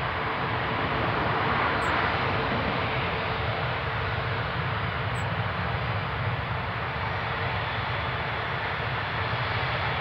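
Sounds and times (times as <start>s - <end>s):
distant jet engines rushing: 0.0s - 10.0s.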